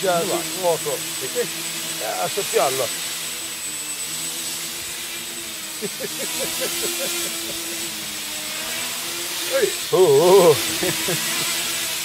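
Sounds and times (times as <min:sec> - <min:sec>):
drone motors buzzing hum: 0:00.0 - 0:12.0.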